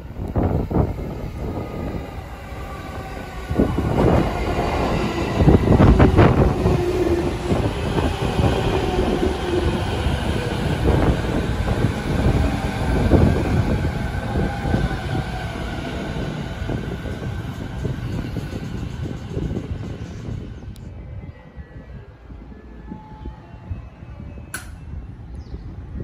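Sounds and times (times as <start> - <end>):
electric train slowing: 0.0 - 25.8.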